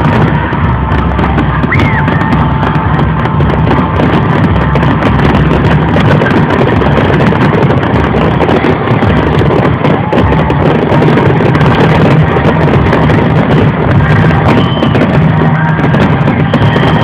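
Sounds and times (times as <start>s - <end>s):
firework whistle: 0.0s - 17.0s
fireworks crackling and popping: 0.0s - 17.0s.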